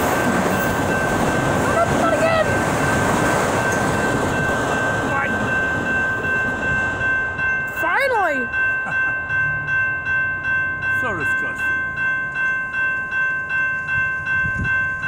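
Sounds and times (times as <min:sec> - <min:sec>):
crossing bell ringing: 0:00.0 - 0:15.0.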